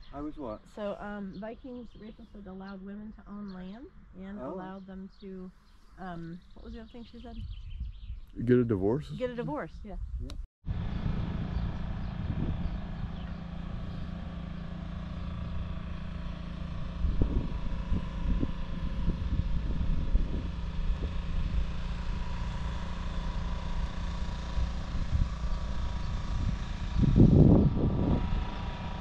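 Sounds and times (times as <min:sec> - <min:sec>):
vehicle engine and road drone: 0:00.0 - 0:07.7, 0:08.3 - 0:29.0.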